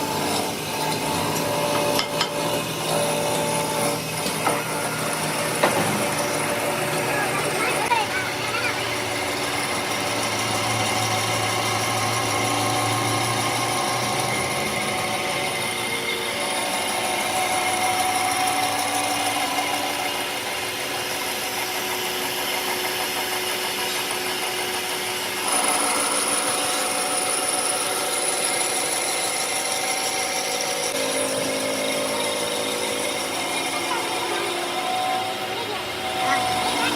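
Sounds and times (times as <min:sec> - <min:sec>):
power tool running under load: 0:00.0 - 0:36.9.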